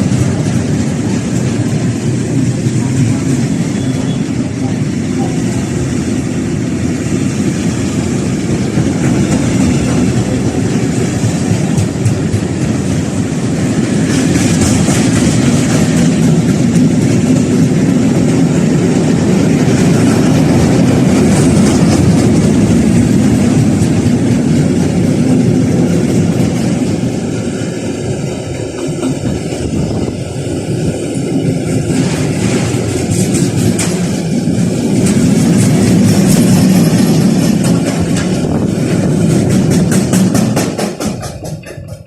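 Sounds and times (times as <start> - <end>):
freight train rumbling and rattling: 0.0 - 42.0.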